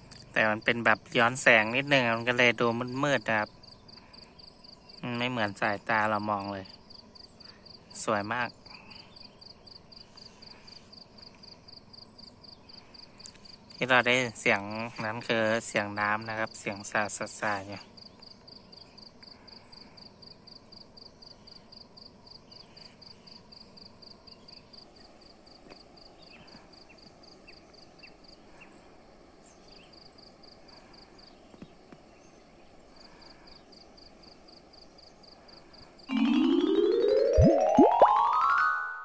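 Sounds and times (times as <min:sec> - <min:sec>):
insect chirping: 0:00.0 - 0:36.1.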